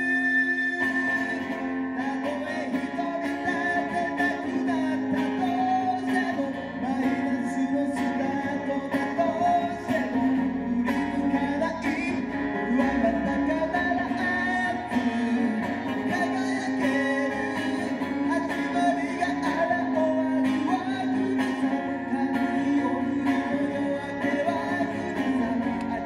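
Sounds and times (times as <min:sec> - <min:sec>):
acoustic guitar strumming: 0:00.0 - 0:26.0
man singing: 0:00.0 - 0:26.0.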